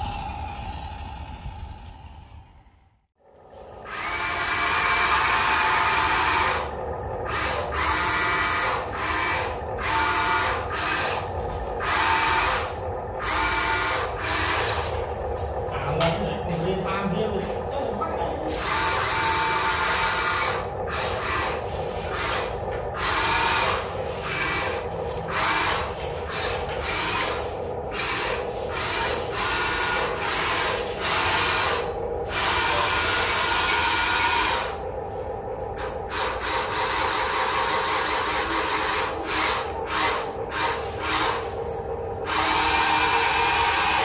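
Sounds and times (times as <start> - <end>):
electric motors whining: 0.0 - 44.0.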